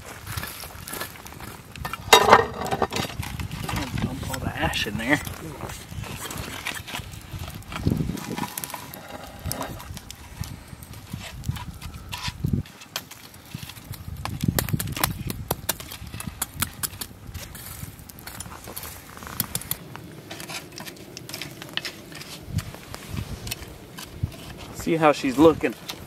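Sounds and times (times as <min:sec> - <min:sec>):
campfire crackle: 0:00.0 - 0:26.0
embers scraping on iron lid: 0:01.8 - 0:26.0.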